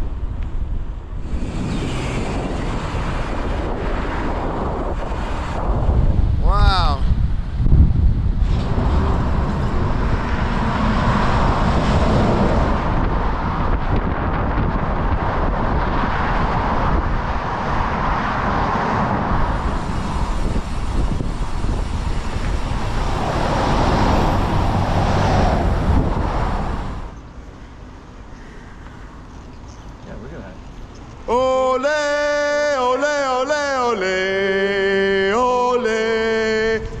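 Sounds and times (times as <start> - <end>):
road traffic rushing: 0.0 - 37.0.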